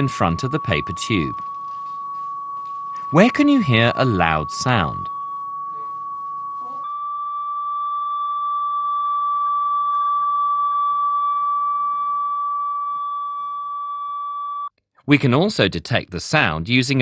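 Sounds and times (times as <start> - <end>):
steady test tone: 0.0 - 14.7.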